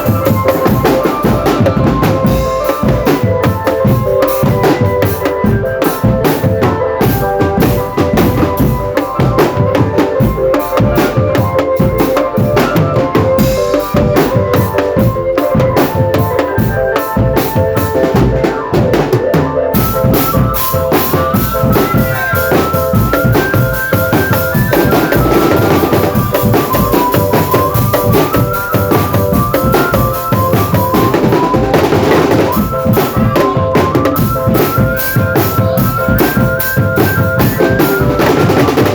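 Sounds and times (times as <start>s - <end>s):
marching snare and bass drums: 0.0s - 38.9s
tune on pitched instruments: 0.0s - 38.9s.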